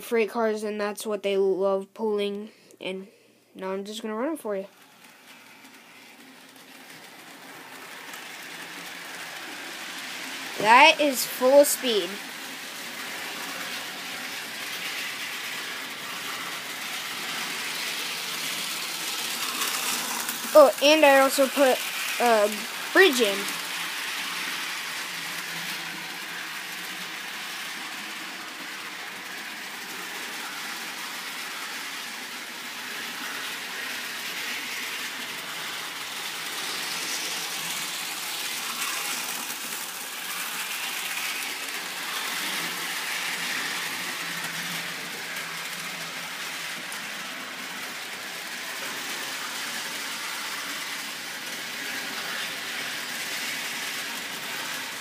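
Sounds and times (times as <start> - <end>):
model train motor whirring: 4.6 - 55.0
wheels hissing on rail: 4.7 - 55.0.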